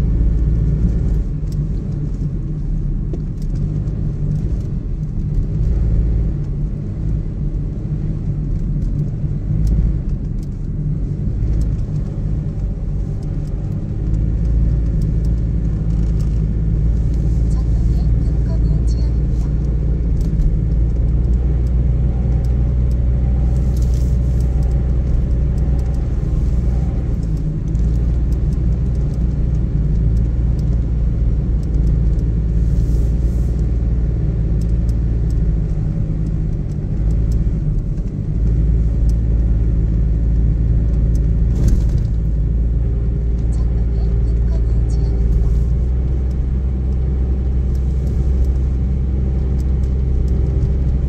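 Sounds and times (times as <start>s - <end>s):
car cabin engine and tyre rumble: 0.0s - 51.0s.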